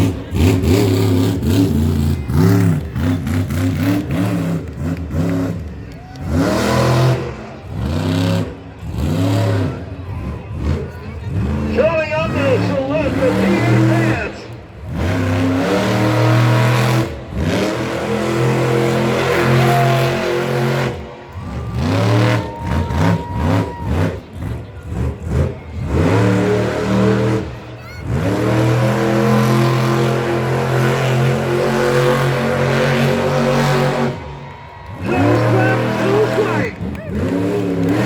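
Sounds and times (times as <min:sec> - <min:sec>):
truck engine revving: 0:00.0 - 0:38.0.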